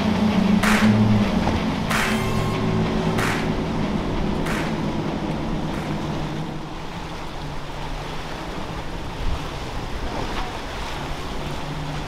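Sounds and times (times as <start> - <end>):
motorboat engines humming: 0.0 - 12.0
water and waves washing: 0.0 - 12.0.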